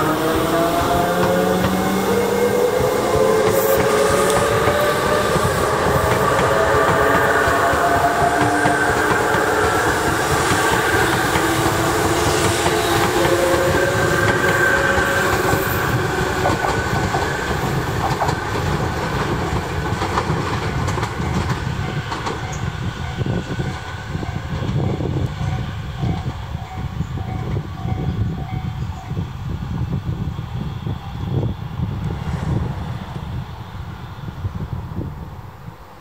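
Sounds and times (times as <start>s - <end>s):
electric train whining: 0.0s - 36.0s.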